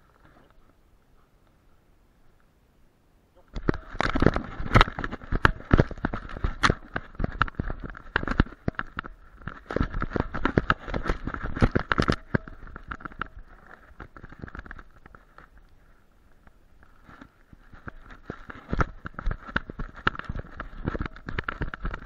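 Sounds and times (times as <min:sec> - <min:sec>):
camera harness knocking and rattling: 0:03.5 - 0:15.6, 0:16.4 - 0:22.0.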